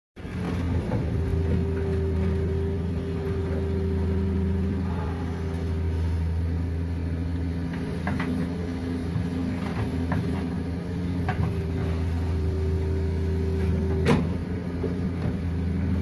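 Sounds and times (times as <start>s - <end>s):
excavator diesel engine drone: 0.2s - 16.0s
high steady hum: 0.3s - 16.0s.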